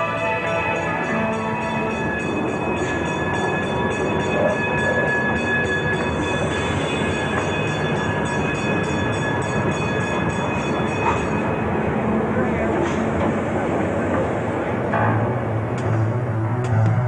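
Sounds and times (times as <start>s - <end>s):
diesel railcar rolling past: 0.0s - 17.0s.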